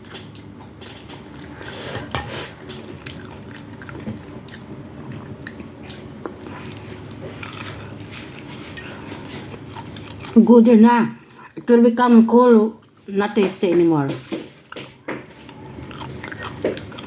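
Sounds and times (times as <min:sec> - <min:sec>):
person chewing food: 0:00.0 - 0:10.4, 0:11.2 - 0:11.7, 0:14.2 - 0:17.0.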